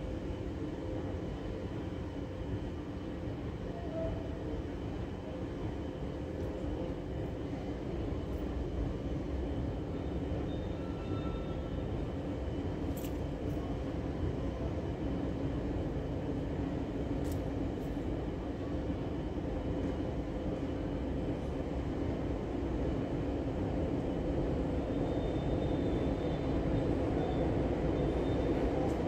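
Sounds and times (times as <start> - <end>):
underground station rumble and hum: 0.0 - 29.0.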